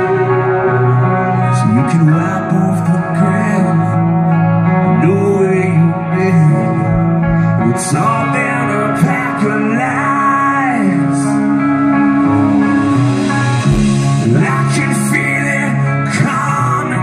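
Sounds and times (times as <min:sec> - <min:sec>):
electric guitar bending notes: 0:00.0 - 0:17.0
live rock band playing: 0:00.0 - 0:17.0
steady bass line: 0:00.0 - 0:17.0.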